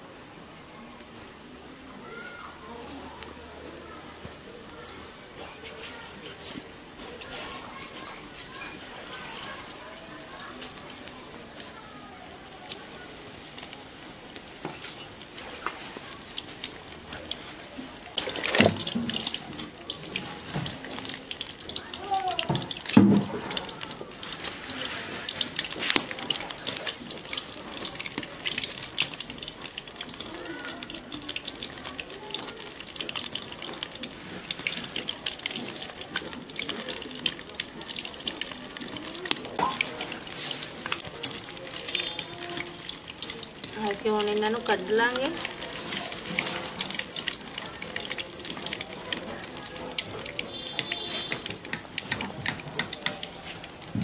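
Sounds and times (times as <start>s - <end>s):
food deep-frying in oil: 0.0s - 54.0s
oil popping and crackling: 2.0s - 54.0s.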